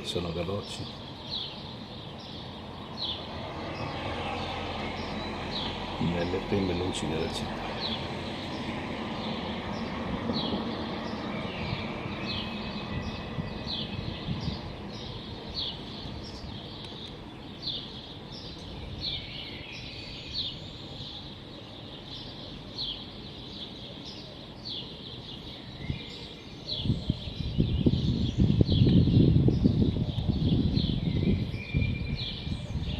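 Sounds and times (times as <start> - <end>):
low rumble of city traffic: 0.0 - 32.9.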